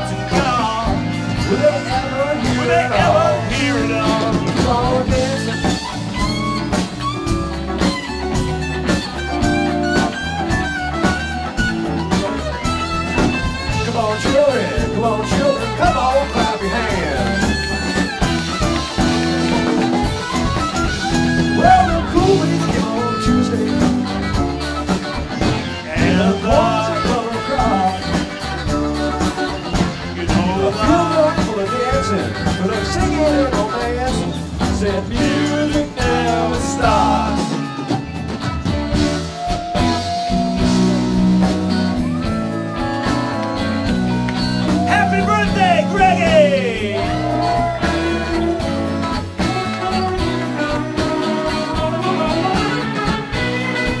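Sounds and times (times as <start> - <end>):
electric guitar lead bending: 0.0 - 54.0
live rock band playing: 0.0 - 54.0.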